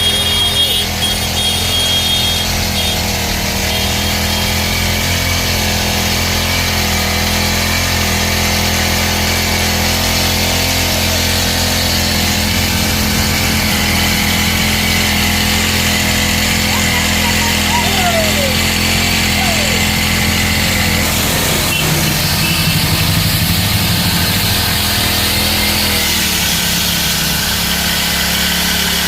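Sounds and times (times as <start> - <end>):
petrol engine running steadily: 0.0 - 29.0.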